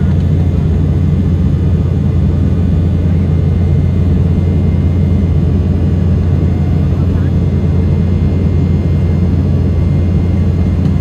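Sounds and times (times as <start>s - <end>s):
jet cabin engine rumble: 0.0s - 11.0s.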